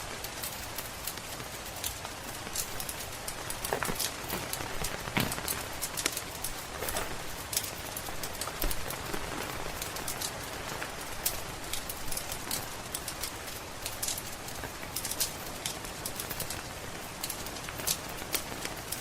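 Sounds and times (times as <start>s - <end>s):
rain pattering: 0.0s - 19.0s
wood fire crackling and popping: 0.0s - 19.0s.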